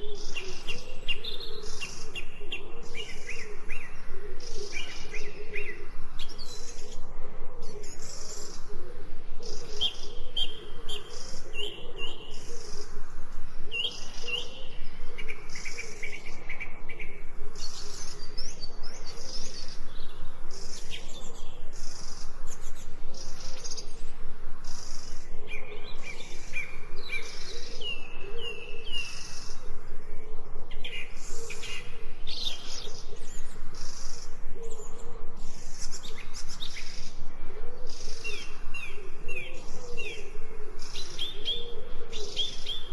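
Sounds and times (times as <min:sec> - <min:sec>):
background bird calls: 0:00.0 - 0:42.9.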